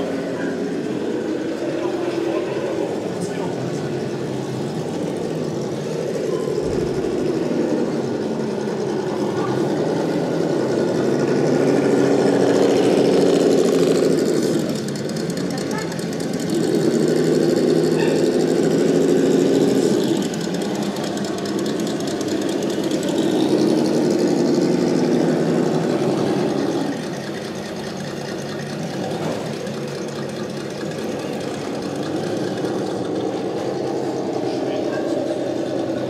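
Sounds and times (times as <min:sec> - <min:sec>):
rc trucks engine-like drone: 0:00.0 - 0:36.0.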